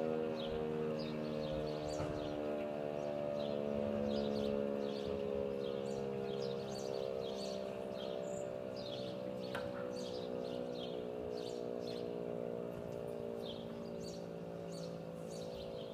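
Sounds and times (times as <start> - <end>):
motor siren steady tone: 0.0 - 15.9
small birds chirping: 0.0 - 15.9.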